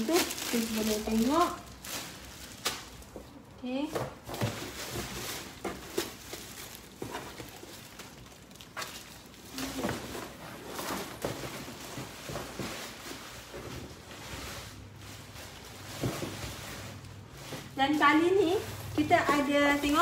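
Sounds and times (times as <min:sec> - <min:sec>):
plastic wrapping crinkling: 0:00.0 - 0:20.0.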